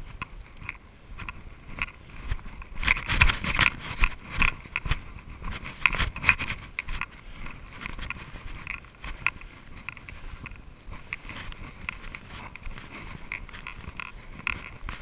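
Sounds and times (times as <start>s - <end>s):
footsteps on dirt and dry leaves: 1.1s - 15.0s.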